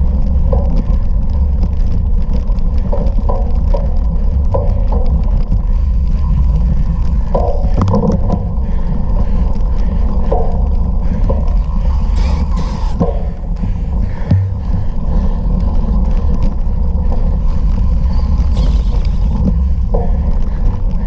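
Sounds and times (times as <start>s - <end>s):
bicycle rattling over rough ground: 0.0s - 21.0s
wind rumbling over microphone: 0.0s - 21.0s.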